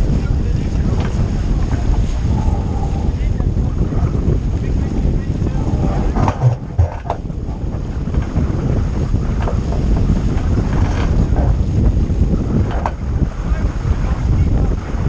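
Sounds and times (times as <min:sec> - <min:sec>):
water splashing against hull: 0:00.0 - 0:15.0
wind buffeting microphone: 0:00.0 - 0:15.0.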